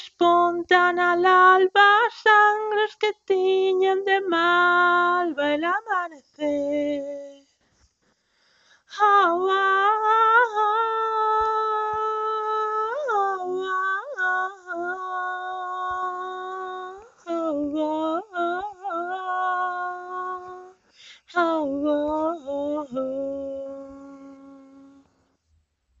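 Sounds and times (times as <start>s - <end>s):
person singing a cappella: 0.0s - 7.6s, 8.9s - 25.3s.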